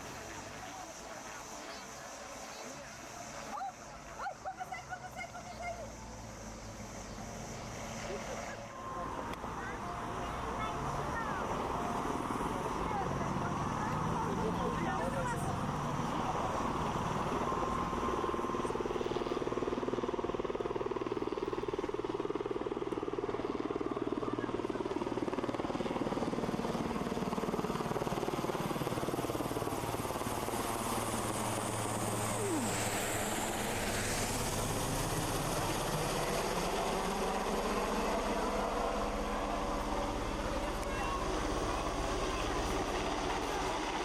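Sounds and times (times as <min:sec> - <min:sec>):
helicopter rotors running: 0:00.0 - 0:44.0.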